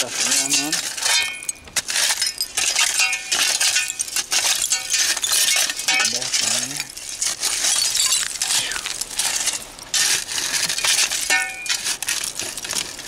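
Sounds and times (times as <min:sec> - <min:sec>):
glass clinking and crunching: 0:00.0 - 0:13.0.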